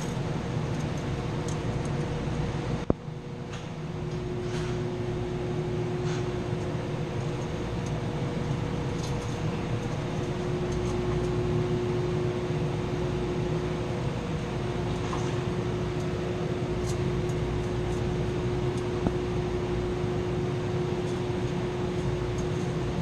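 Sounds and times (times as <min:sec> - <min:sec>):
machinery hum: 0:00.0 - 0:23.0.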